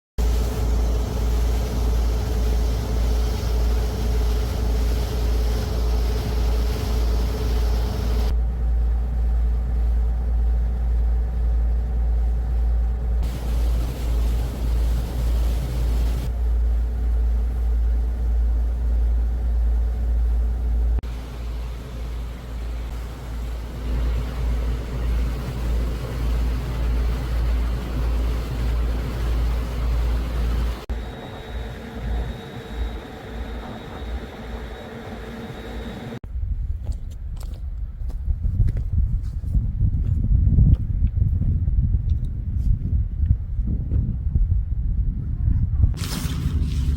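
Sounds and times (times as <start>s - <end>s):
vehicle rumble: 0.2s - 46.9s.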